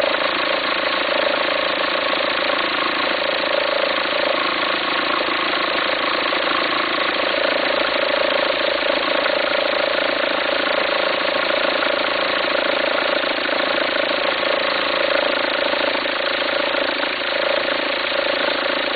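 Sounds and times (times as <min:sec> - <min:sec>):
diesel engine idling: 0:00.0 - 0:18.9.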